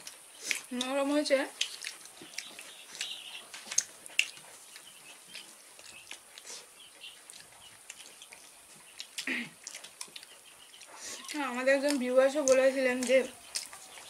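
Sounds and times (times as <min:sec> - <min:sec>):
eating mouth clicks and smacks: 0:00.0 - 0:14.0.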